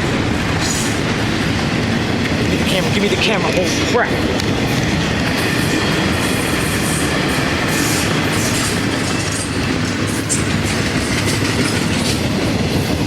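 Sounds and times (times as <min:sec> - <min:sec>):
train wheels rumbling and clattering: 0:00.0 - 0:13.0.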